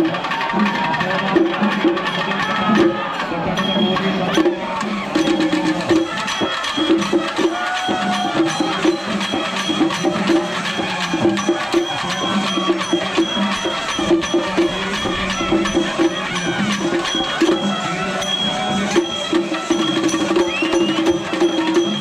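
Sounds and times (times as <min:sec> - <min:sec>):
drums struck fast with sticks: 0:00.0 - 0:22.0.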